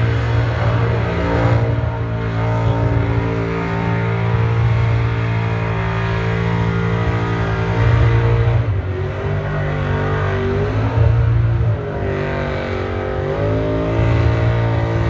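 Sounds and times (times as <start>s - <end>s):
supercharged engine at high revs: 0.0s - 15.0s.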